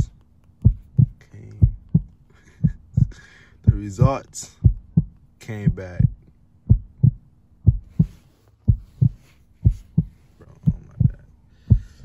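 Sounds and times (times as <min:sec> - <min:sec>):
heartbeat thumps: 0:00.0 - 0:12.0.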